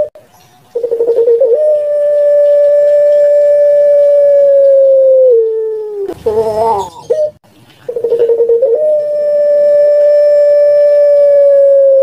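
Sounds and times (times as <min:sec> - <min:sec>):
dove calling: 0:00.0 - 0:12.0.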